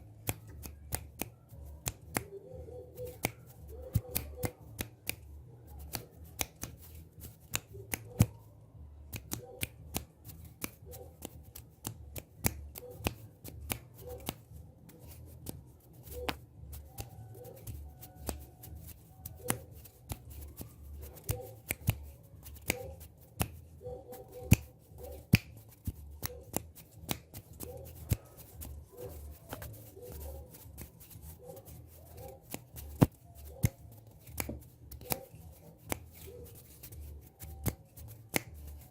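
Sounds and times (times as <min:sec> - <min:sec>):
finger snaps and clicks: 0:00.0 - 0:38.9.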